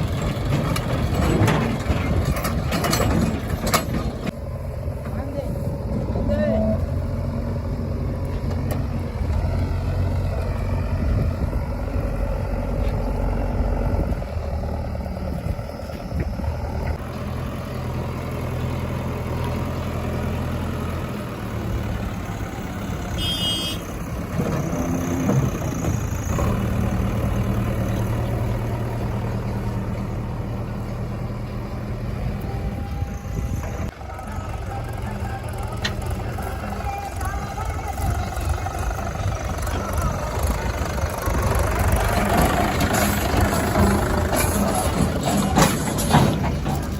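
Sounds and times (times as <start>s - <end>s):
heavy diesel engines working: 0.0s - 46.9s.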